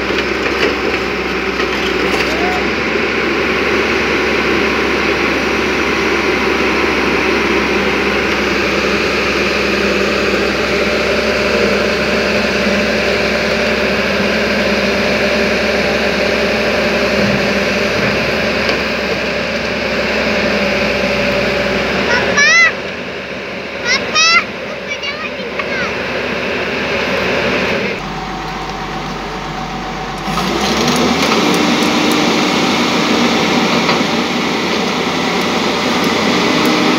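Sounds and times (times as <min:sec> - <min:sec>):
excavator tracks moving: 0:00.0 - 0:04.4, 0:06.4 - 0:23.0, 0:23.9 - 0:36.9
excavator diesel engine running: 0:00.0 - 0:36.9.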